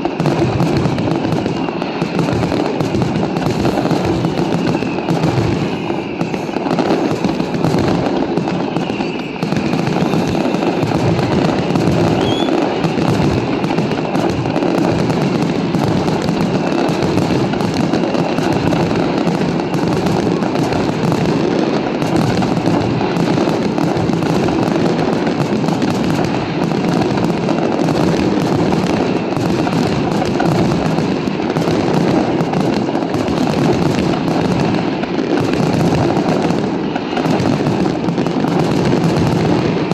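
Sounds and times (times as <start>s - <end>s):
faint firework whistles: 0.0s - 34.6s
fireworks bangs and crackle: 0.0s - 39.9s.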